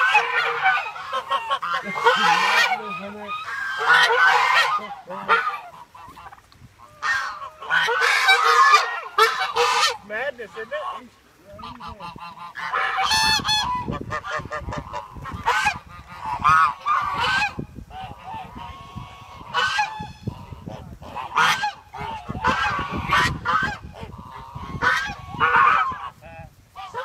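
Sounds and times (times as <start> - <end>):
flock of birds calling: 0.0 - 27.0.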